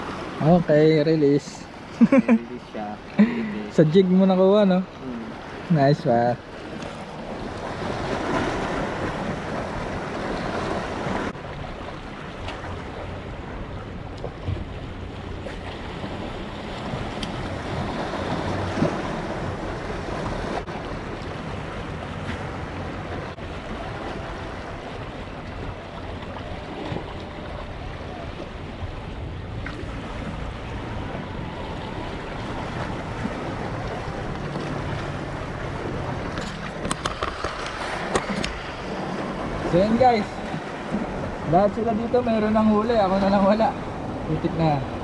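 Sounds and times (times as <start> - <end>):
waves lapping against rocks: 5.3 - 45.0.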